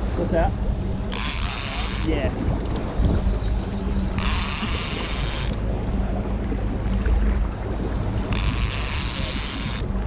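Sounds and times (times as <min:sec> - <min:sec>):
boat engine running: 0:00.0 - 0:10.0
wind buffeting microphone: 0:00.0 - 0:10.0.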